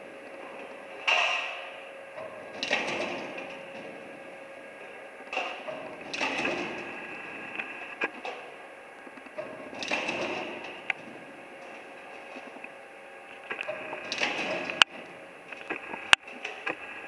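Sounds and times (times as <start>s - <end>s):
roll forming machine humming: 0.0s - 17.0s.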